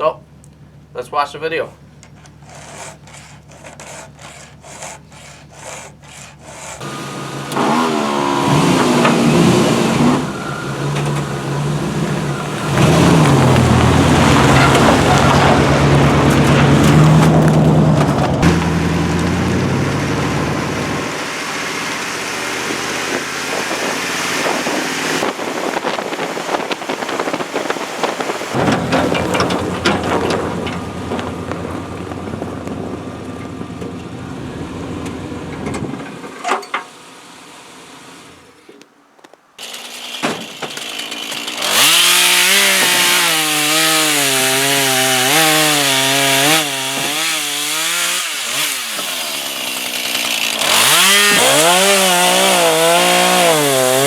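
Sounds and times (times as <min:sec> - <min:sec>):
chainsaw cutting logs: 0:02.0 - 0:32.8, 0:39.6 - 0:54.0.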